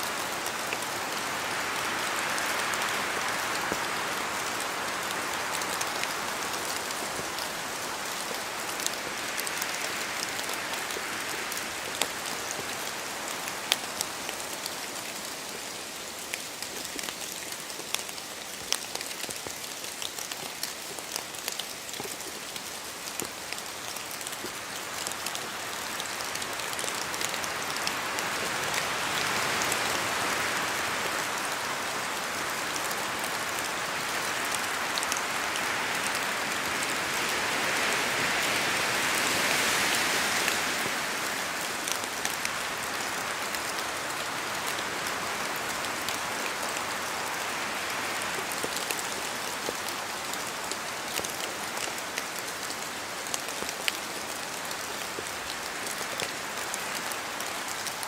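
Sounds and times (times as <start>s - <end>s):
steady rain in forest: 0.0s - 58.0s
water dripping from trees: 0.0s - 58.0s.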